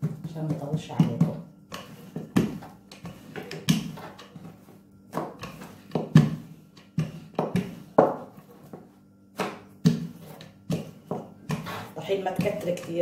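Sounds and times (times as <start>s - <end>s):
rolling pin rolling dough: 0.0s - 13.0s.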